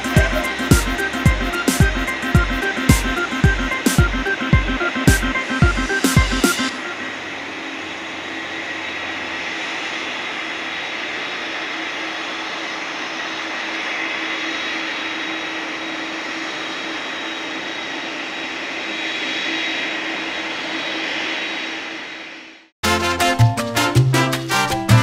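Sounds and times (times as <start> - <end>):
jet turbines whining: 0.0 - 22.8.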